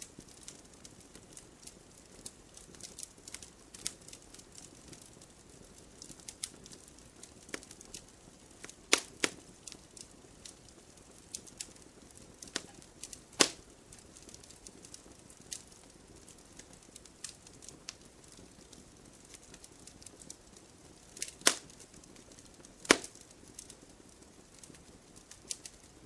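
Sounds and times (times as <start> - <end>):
faint steady hiss: 0.0 - 26.0
wood fire crackling: 0.0 - 26.0.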